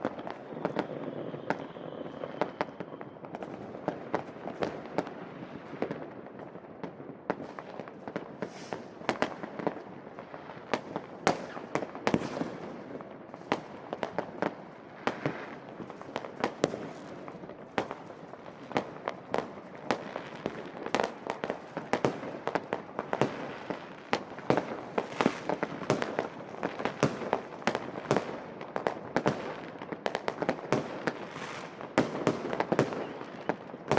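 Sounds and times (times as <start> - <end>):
fireworks and firecrackers banging: 0.0 - 33.9.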